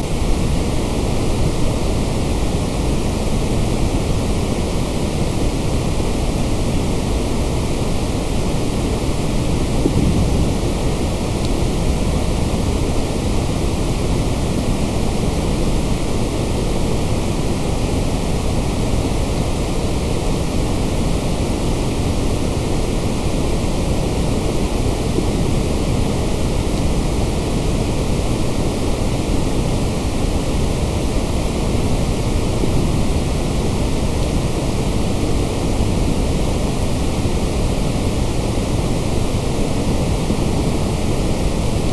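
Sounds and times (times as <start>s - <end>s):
white noise hiss: 0.0s - 41.9s.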